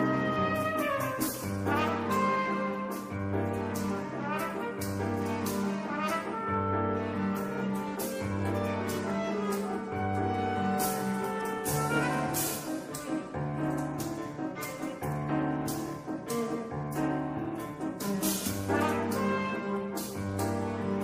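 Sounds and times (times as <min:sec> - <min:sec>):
instrumental brass music: 0:00.0 - 0:21.0
percussion hits: 0:00.0 - 0:21.0.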